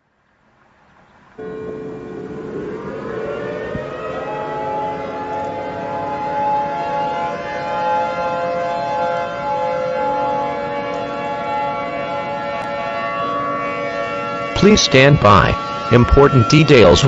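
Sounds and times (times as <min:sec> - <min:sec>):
warning siren wailing: 0:01.4 - 0:17.0.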